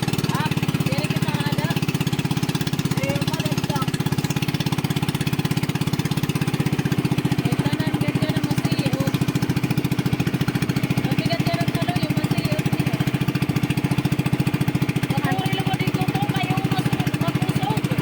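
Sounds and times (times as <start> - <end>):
motorboat engine chugging: 0.0 - 18.0.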